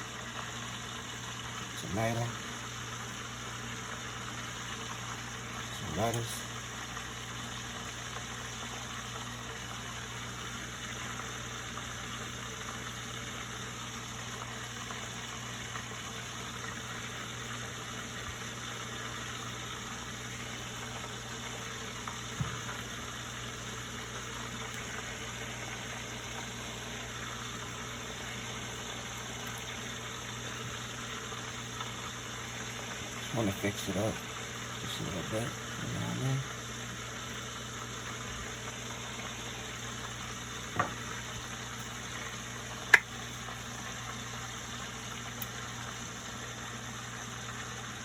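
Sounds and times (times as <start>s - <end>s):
low mechanical hum with hiss: 0.0s - 48.0s.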